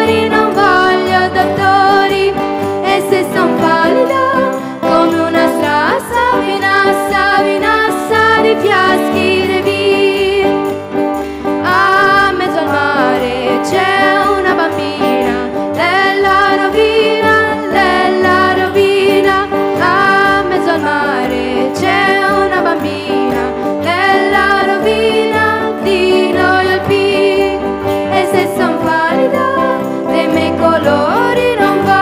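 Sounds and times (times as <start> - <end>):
girls singing together: 0.0 - 10.4, 11.7 - 32.0
acoustic guitar: 0.0 - 32.0
keyboard: 0.0 - 32.0.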